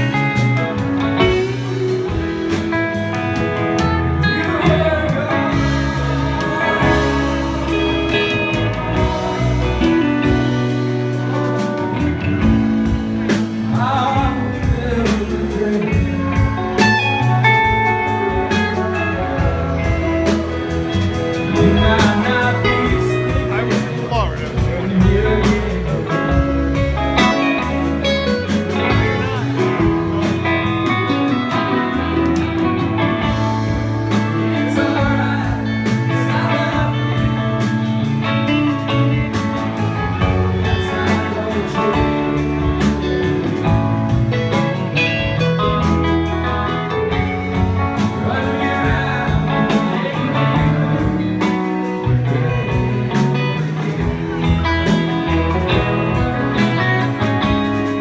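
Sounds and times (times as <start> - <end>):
drums: 0.0 - 58.0
electric bass: 0.0 - 58.0
electric guitars: 0.0 - 58.0
man singing lead vocal: 0.0 - 58.0.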